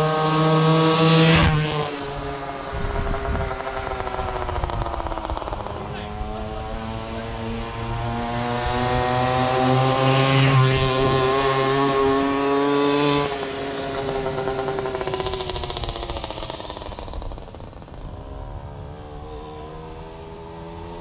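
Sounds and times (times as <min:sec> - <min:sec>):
moped engine passing by: 0:00.0 - 0:21.0.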